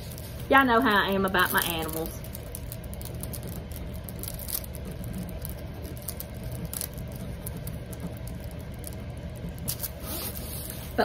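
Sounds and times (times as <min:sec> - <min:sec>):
canvas rustling and ticking: 0:00.0 - 0:11.0
steady low hum: 0:00.0 - 0:11.0.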